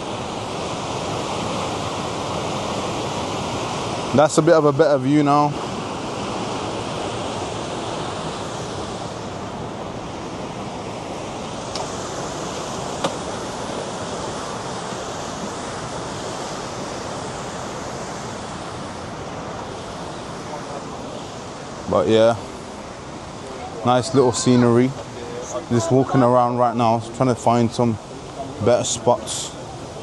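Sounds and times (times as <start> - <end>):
river rapids rushing: 0.0 - 30.0.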